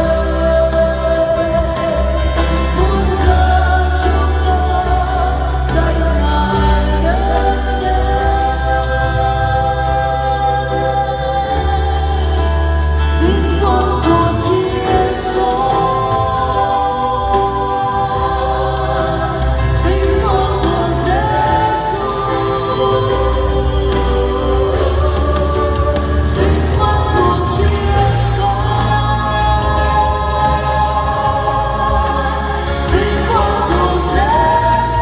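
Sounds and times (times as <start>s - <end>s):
accompaniment with steady bass: 0.0s - 35.0s
singers in harmony: 0.0s - 35.0s.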